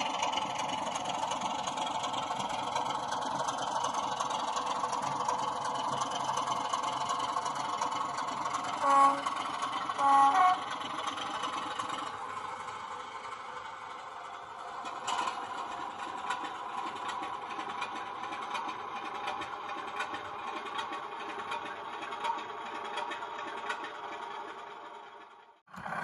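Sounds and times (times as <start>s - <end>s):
diesel engine sound from speaker: 0.0s - 26.0s.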